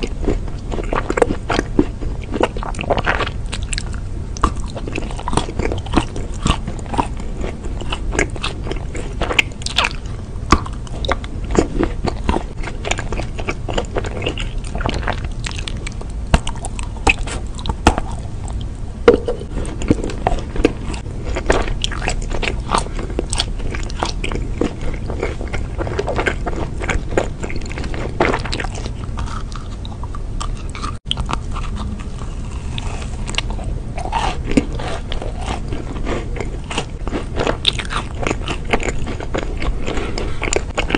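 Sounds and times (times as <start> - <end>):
crunchy sweets chewing: 0.0 - 40.9.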